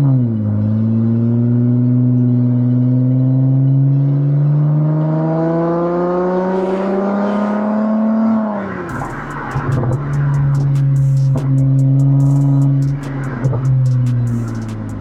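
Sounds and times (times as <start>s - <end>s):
car exhaust under acceleration: 0.0s - 15.0s.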